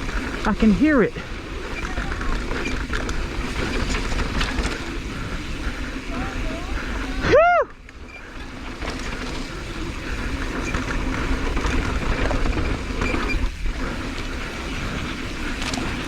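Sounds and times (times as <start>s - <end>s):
bike rattling and clicking: 0.0s - 16.0s
wind rumbling on camera: 0.0s - 16.0s.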